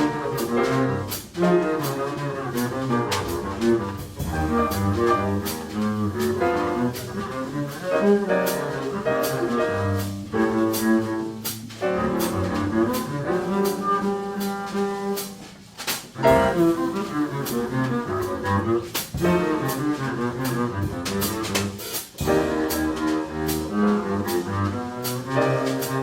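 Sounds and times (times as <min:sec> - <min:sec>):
double bass: 0:00.0 - 0:26.0
jazz combo playing: 0:00.0 - 0:26.0.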